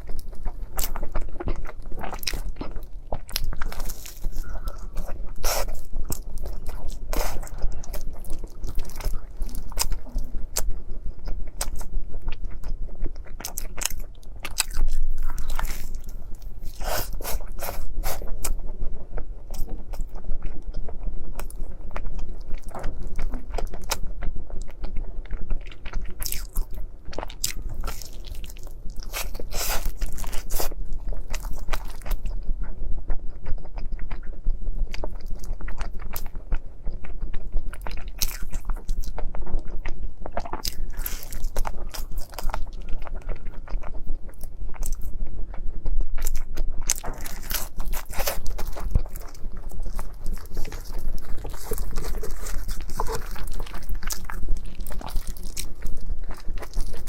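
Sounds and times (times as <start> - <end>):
biting and chewing: 0.0 - 57.0.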